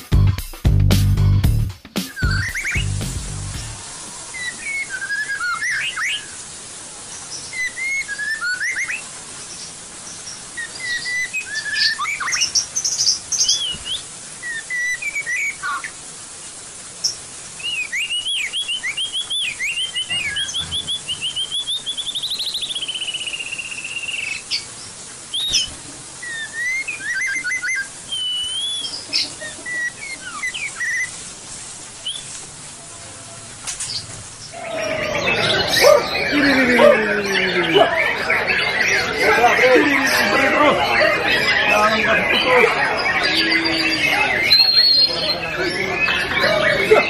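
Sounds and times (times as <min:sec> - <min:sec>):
bird singing: 0:02.1 - 0:03.0, 0:03.6 - 0:06.4, 0:07.2 - 0:16.0, 0:17.6 - 0:24.7, 0:25.3 - 0:31.1, 0:33.9 - 0:47.0.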